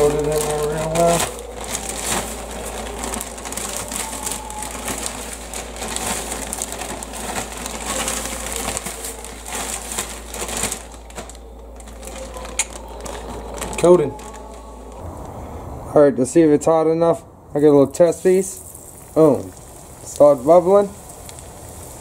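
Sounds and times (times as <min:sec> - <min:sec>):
plastic bag crinkling and rustling: 0:00.0 - 0:15.0, 0:18.1 - 0:22.0.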